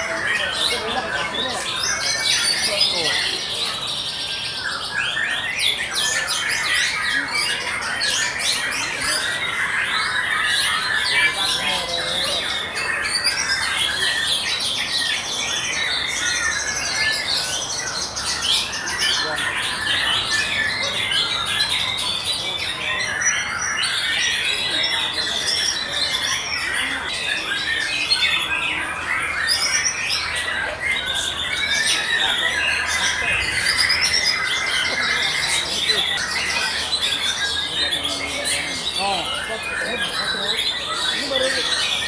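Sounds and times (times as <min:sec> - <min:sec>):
songbirds whistling and chattering: 0:00.0 - 0:42.0.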